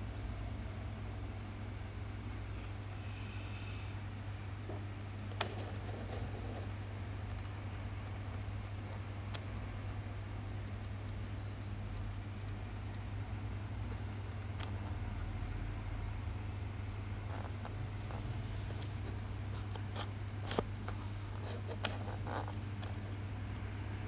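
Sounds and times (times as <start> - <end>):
aquarium filter humming: 0.0 - 24.0
faint ticks: 1.1 - 4.4, 6.6 - 23.7.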